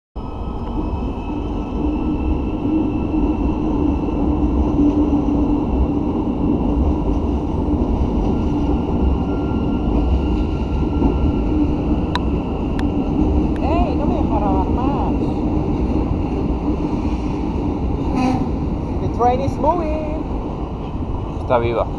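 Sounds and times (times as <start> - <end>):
electric train humming: 0.2 - 21.9.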